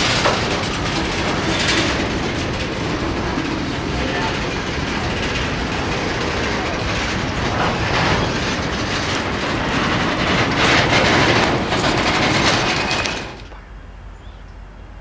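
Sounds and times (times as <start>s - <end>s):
freight train cars rolling past: 0.0s - 15.0s.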